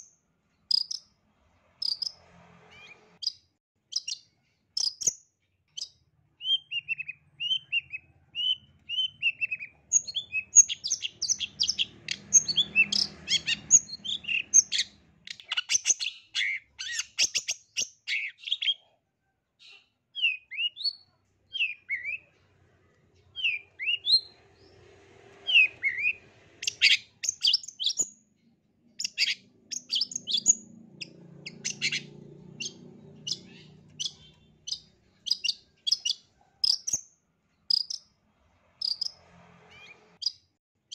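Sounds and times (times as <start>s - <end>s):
bird singing: 0.0s - 1.2s, 1.8s - 2.2s, 2.8s - 18.9s, 19.6s - 24.8s, 25.4s - 38.2s, 38.8s - 39.2s.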